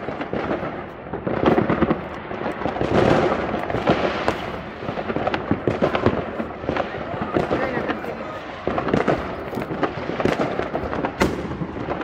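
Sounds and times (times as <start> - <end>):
fireworks and firecrackers crackling: 0.0 - 12.0.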